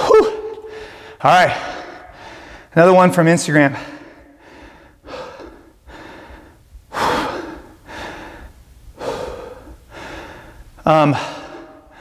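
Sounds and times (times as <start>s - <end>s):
man breathing hard: 0.6s - 2.8s, 3.7s - 12.0s.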